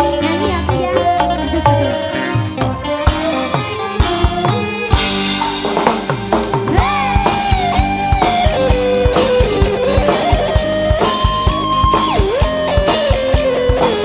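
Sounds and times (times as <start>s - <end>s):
electric guitars: 0.0s - 14.0s
fast drum beat: 0.0s - 14.0s
sliding lead melody: 0.0s - 14.0s.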